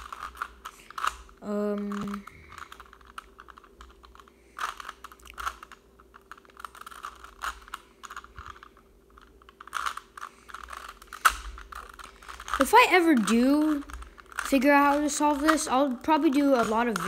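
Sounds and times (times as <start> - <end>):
puzzle cube clicking as twisted: 0.0 - 17.0.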